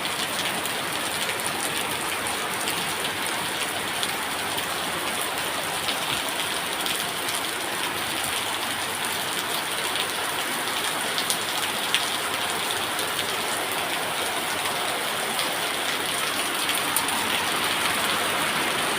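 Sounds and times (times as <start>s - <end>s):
rain falling steadily: 0.0s - 18.9s.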